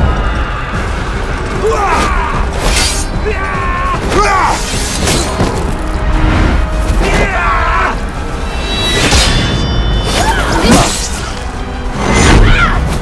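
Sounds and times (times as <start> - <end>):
dramatic orchestral score: 0.0 - 13.0.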